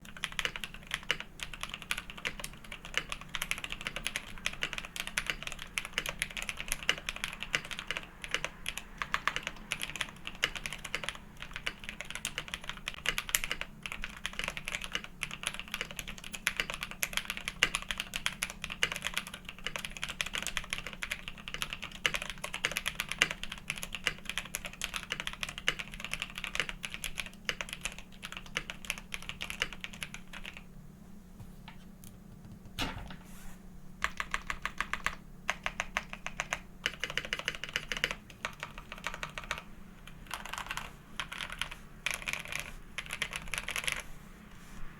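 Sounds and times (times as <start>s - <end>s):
mechanical keyboard typing: 0.0s - 30.7s, 34.0s - 44.1s.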